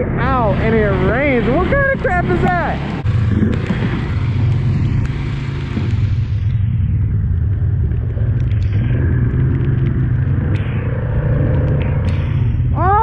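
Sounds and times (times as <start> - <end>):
quad bike engine droning: 0.0 - 13.0.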